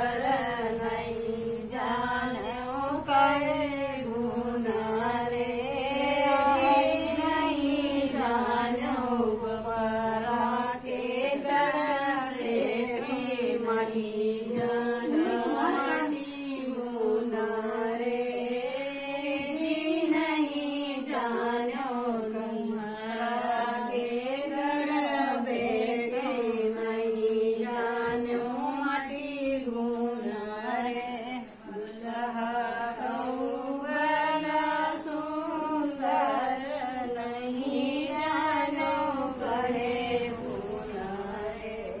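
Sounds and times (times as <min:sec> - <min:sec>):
women singing folk song: 0:00.0 - 0:42.0.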